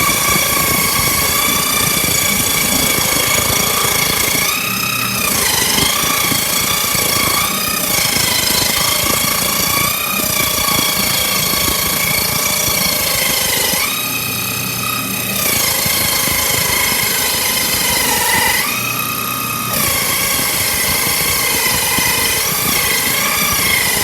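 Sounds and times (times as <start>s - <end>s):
table saw cutting wood: 0.0s - 24.0s.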